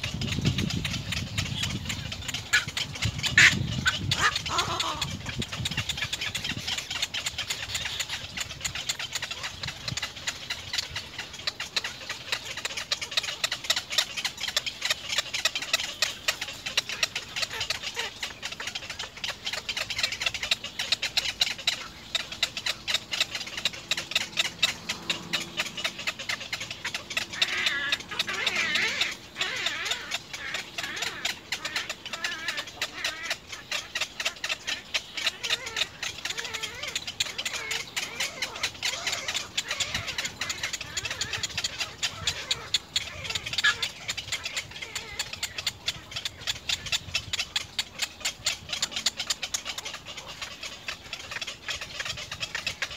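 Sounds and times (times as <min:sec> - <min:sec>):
egret chicks clicking begging calls: 0:00.0 - 0:52.9.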